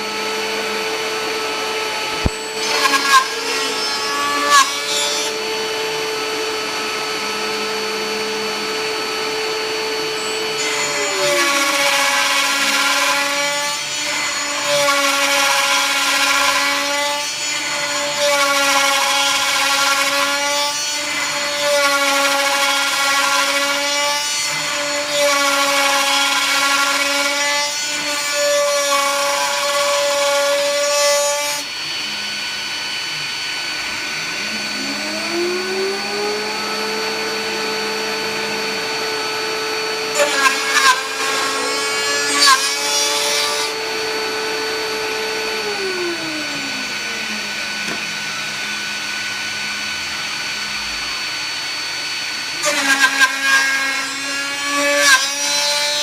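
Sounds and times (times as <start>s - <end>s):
router spindle milling wood: 0.0s - 56.0s.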